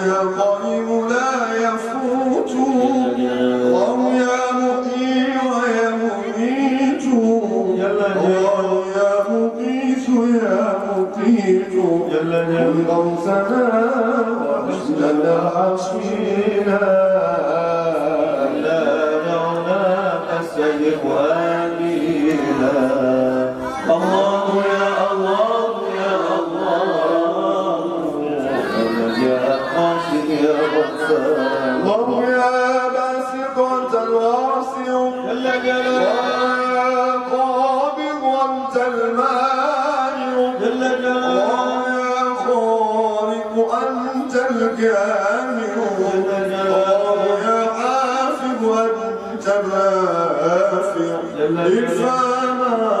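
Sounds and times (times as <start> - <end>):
man chanting into a microphone: 0.0 - 53.0.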